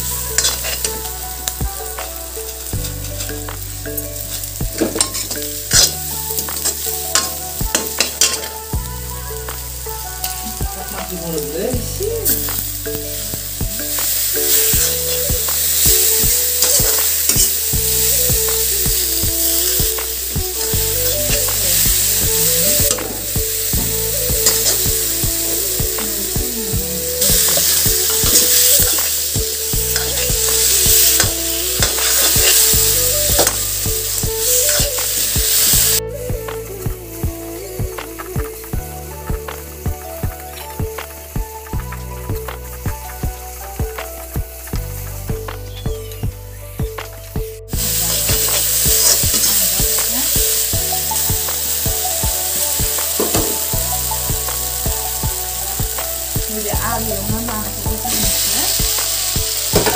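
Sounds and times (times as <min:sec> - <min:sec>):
onions sizzling in a pan: 0:00.0 - 0:47.0, 0:47.7 - 0:59.9
soft background music: 0:00.0 - 0:59.9.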